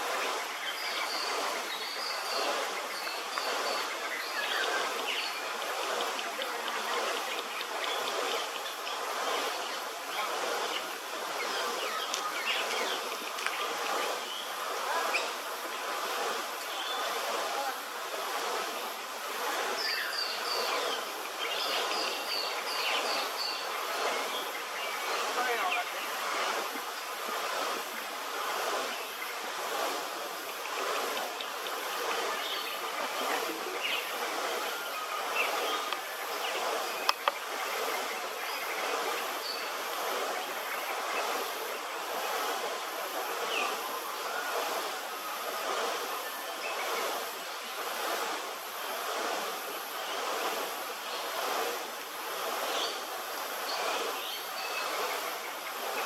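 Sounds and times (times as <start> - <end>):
outdoor background hiss: 0.0 - 56.0
steady background noise: 0.0 - 56.0.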